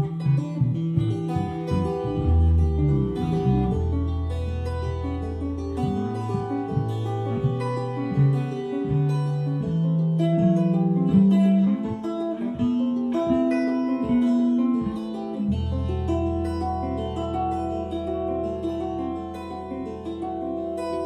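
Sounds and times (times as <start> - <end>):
bass notes: 0.0 - 21.0
plucked guitar: 0.0 - 21.0.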